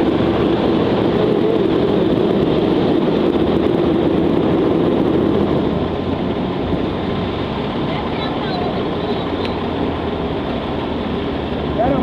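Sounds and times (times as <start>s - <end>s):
road noise: 0.0s - 12.0s
vehicle engine: 0.0s - 12.0s.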